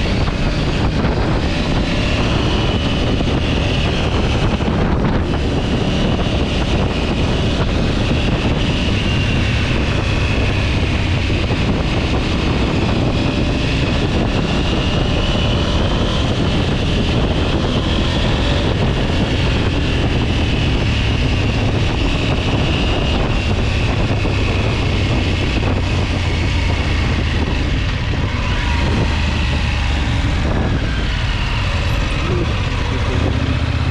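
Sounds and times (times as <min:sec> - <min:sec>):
vehicle engine rumble: 0:00.0 - 0:33.9.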